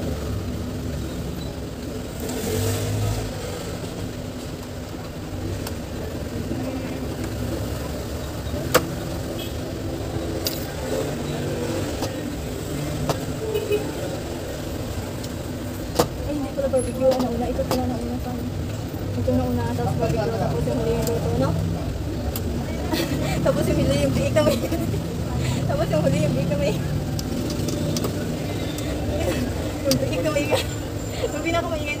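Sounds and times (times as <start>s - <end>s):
low traffic rumble: 0.0s - 32.0s
faint voices: 4.8s - 32.0s.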